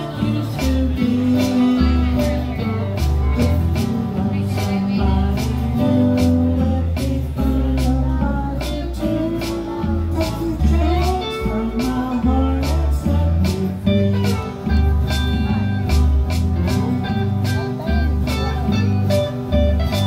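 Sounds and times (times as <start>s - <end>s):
electric guitar: 0.0s - 20.0s
strummed acoustic guitars: 0.0s - 20.0s
walking bass line: 0.0s - 20.0s.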